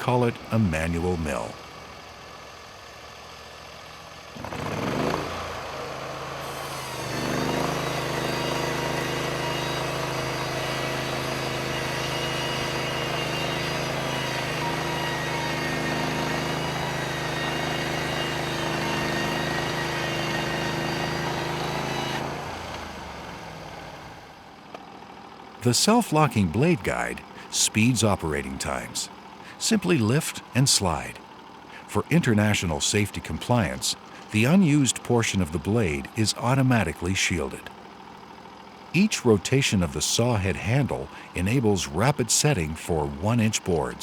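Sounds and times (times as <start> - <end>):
band sawmill cutting a log: 3.1 - 24.4, 25.6 - 44.0.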